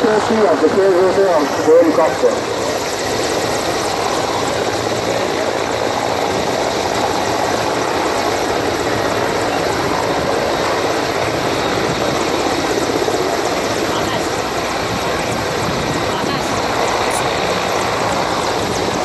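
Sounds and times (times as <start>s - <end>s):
helicopter hovering: 0.0s - 19.0s.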